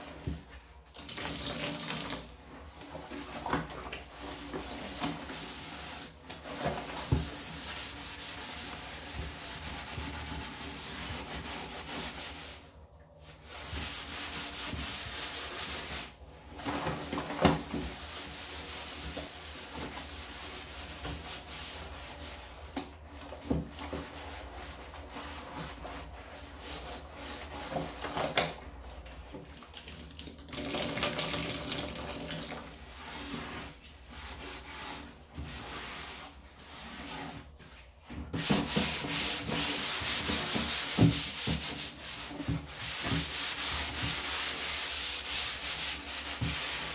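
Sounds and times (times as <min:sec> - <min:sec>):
gloved hands scrubbing plastic bin: 0:00.0 - 0:46.9.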